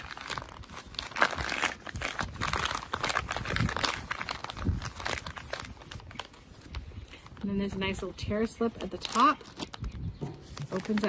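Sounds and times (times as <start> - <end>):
plastic pouch crinkling: 0.0 - 11.0.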